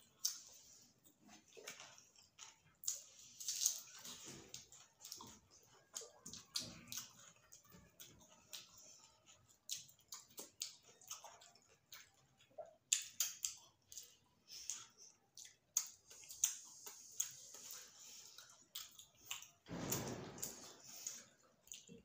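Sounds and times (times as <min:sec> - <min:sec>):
chewing with wet smacks: 0:00.0 - 0:22.0.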